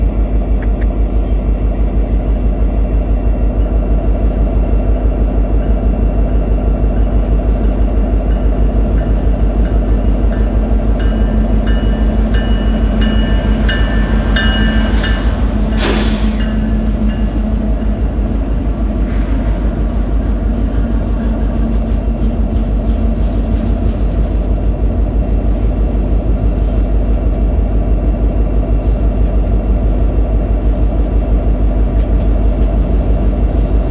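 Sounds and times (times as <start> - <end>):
freight train cars rolling past: 0.0 - 33.9.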